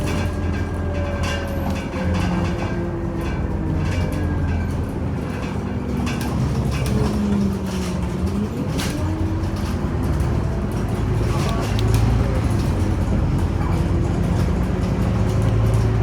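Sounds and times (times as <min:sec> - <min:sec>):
bus engine drone: 0:00.0 - 0:16.0
rattles: 0:00.0 - 0:16.0.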